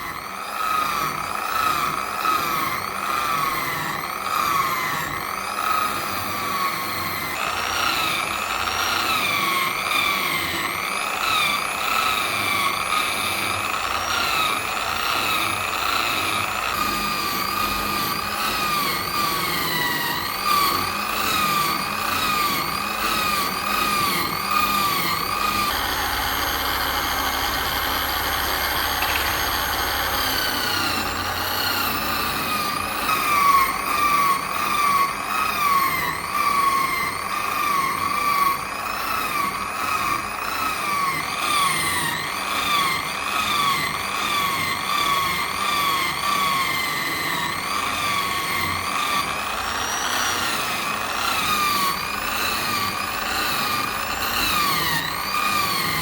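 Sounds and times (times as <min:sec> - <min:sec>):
power tool motor whine: 0:00.0 - 0:56.0.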